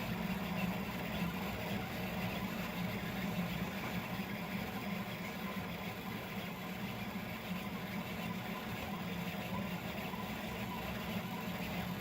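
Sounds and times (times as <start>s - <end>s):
three d printer motors and fans: 0.0s - 12.0s.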